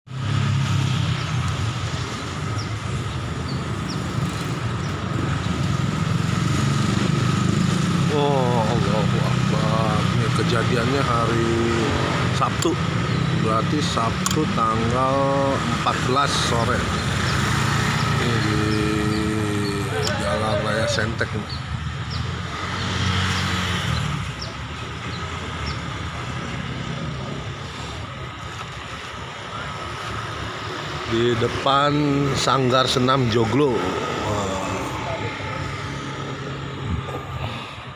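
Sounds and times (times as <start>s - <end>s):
road traffic rumble: 0.1s - 37.9s.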